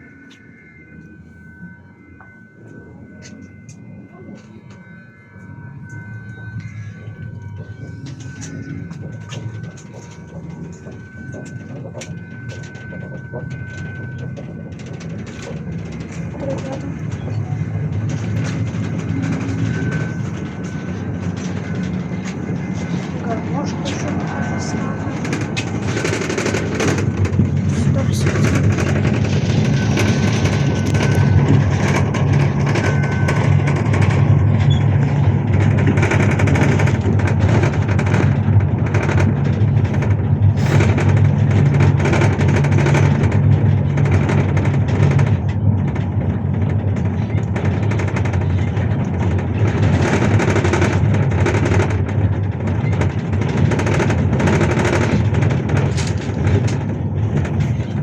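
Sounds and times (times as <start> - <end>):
bus engine drone: 0.0 - 58.0
cabin rattling and clattering: 6.7 - 58.0.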